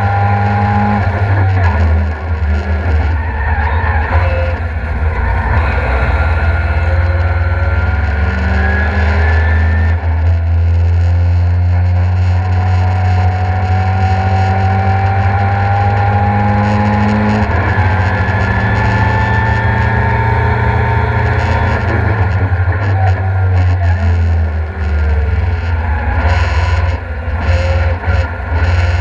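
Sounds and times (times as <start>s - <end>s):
rotary engine running hard: 0.0s - 29.0s.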